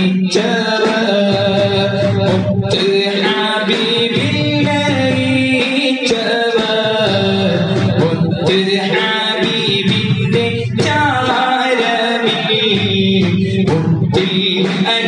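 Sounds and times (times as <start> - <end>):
man singing chant-like song: 0.0 - 15.0.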